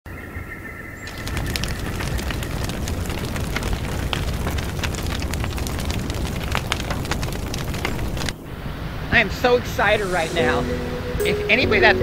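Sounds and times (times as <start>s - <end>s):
fire crackling and popping: 1.0s - 11.8s.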